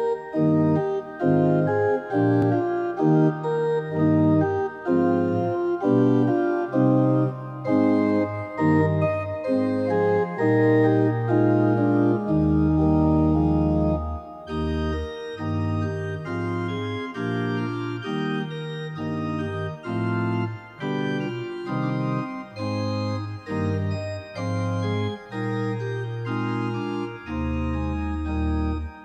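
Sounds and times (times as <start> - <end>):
organ playing chords: 0.0 - 29.0.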